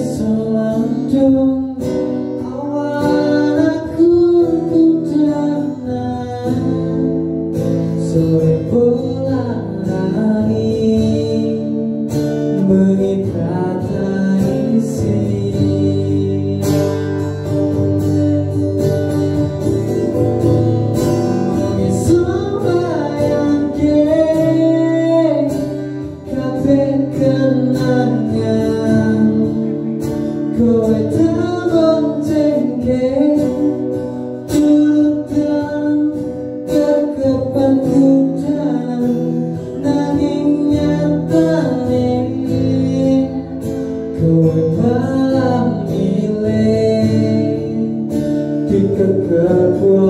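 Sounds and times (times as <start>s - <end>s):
man singing into microphone: 0.0s - 19.9s, 21.0s - 50.0s
strummed acoustic guitar: 0.0s - 50.0s.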